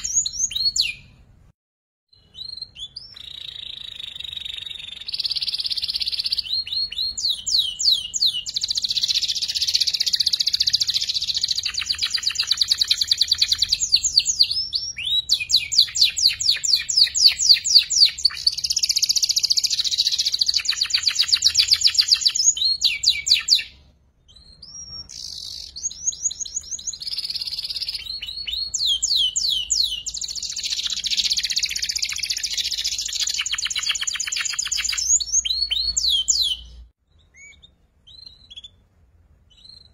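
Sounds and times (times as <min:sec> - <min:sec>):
canary singing trills: 0:00.0 - 0:01.2, 0:02.1 - 0:39.9.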